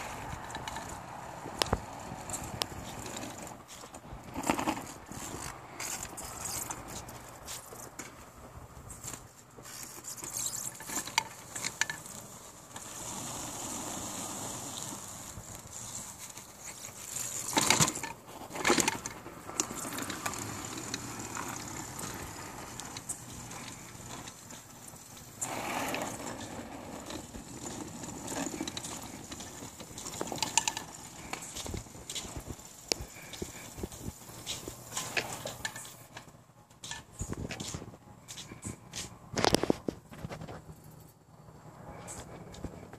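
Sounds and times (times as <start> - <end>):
robot motor and tyre noise: 0.0 - 36.3.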